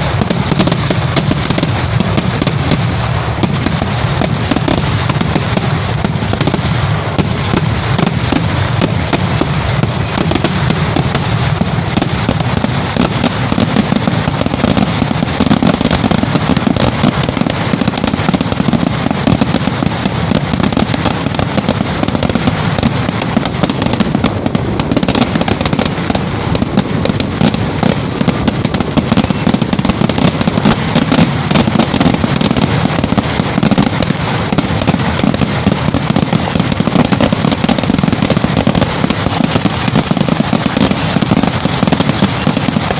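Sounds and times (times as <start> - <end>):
firecrackers exploding rapidly: 0.0 - 42.9.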